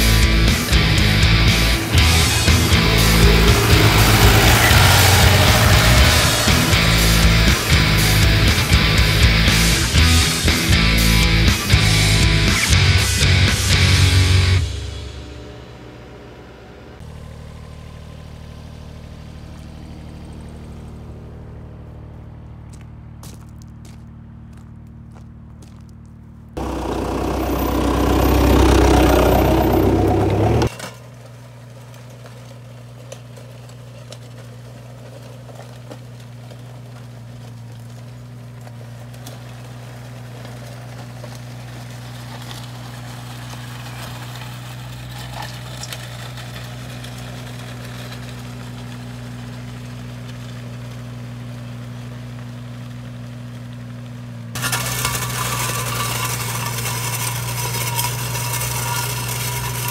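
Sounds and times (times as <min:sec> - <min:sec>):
loud mechanical noise: 0:00.0 - 0:31.7, 0:34.0 - 0:59.9
machine engine idling: 0:00.0 - 0:59.9.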